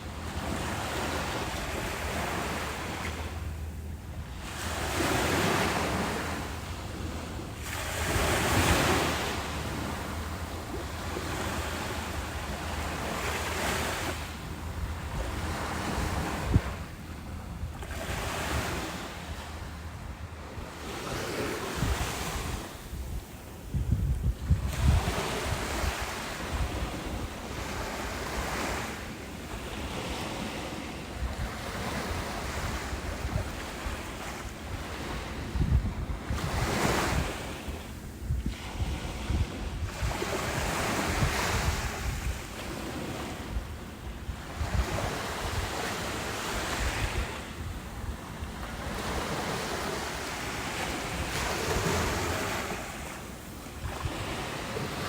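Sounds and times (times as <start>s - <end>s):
wind buffeting microphone: 0.0s - 29.0s, 29.6s - 55.0s
ocean waves breaking: 0.0s - 55.0s.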